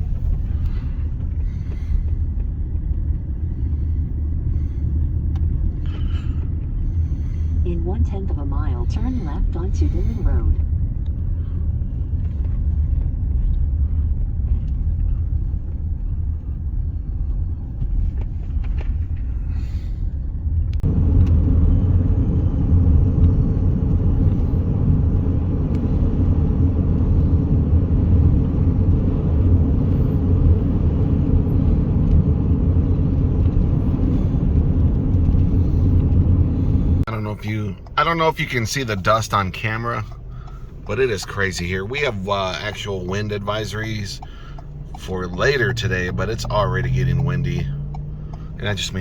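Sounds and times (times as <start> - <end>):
car road noise from inside cabin: 0.0 - 49.0.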